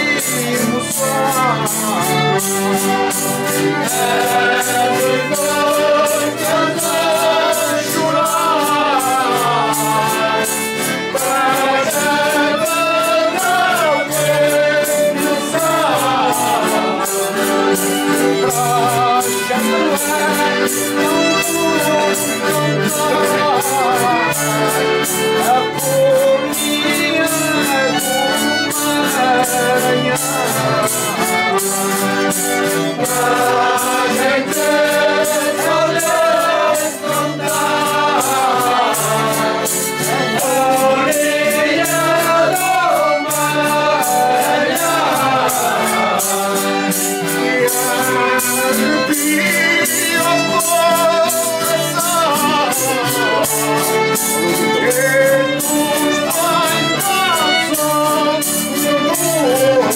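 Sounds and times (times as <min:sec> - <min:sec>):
accordion: 0:00.0 - 0:59.9
group singing folk song: 0:00.0 - 0:59.9.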